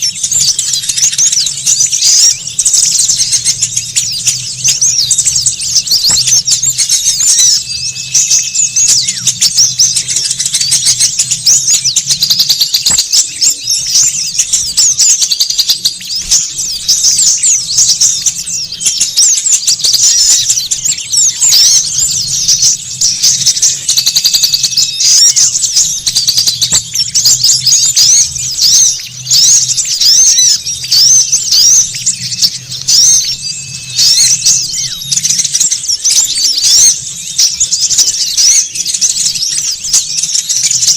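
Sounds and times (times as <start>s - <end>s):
small birds chattering: 0.0s - 40.9s.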